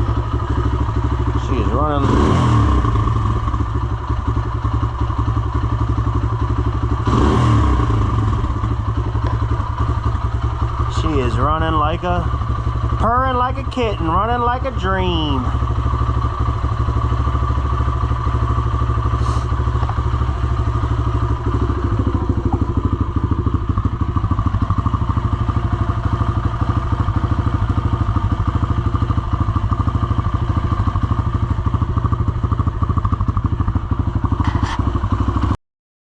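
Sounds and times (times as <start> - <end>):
dirt bike engine idling: 0.0 - 35.6.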